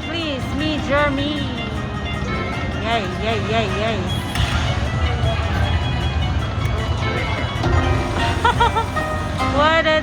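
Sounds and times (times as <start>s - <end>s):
low casino floor din: 0.0s - 10.0s
slot machine electronic music: 0.0s - 10.0s.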